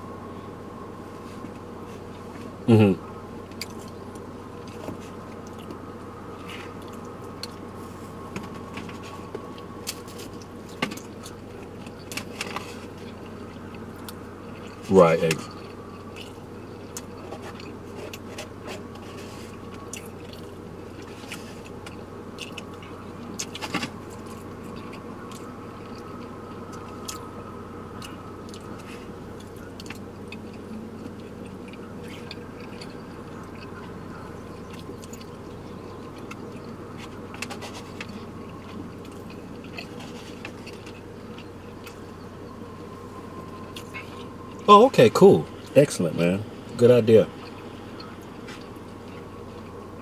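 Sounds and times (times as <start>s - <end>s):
low car hum: 0.0s - 50.0s
person chewing: 3.3s - 44.7s, 46.6s - 50.0s.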